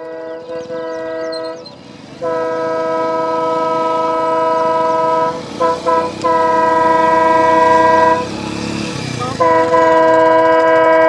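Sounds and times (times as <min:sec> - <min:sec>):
locomotive horn blasts: 0:00.0 - 0:11.0.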